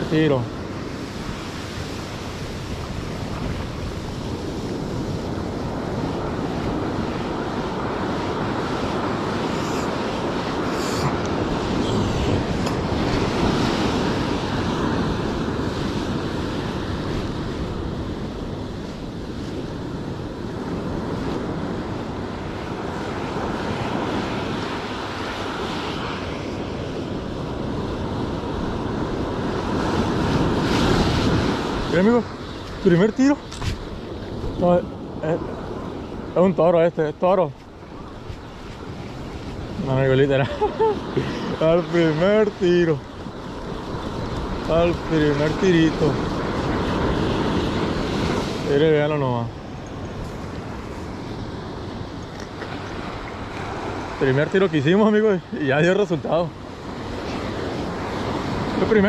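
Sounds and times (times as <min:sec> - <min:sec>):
ocean surf washing onto beach: 0:00.0 - 0:59.0
wind on microphone: 0:00.0 - 0:59.0.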